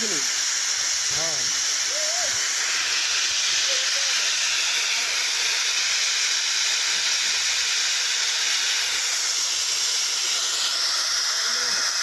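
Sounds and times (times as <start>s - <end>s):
gas cutting torch hissing: 0.0s - 12.0s.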